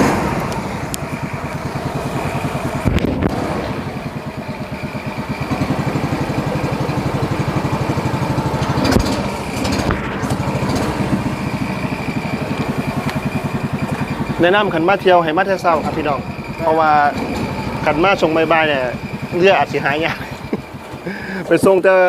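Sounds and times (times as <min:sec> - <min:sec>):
engine knocks: 0:00.0 - 0:22.0
small engine idling: 0:00.0 - 0:22.0.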